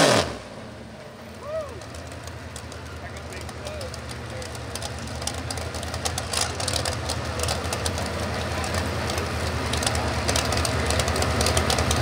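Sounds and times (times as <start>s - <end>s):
truck engine idling roughly: 0.8s - 12.0s.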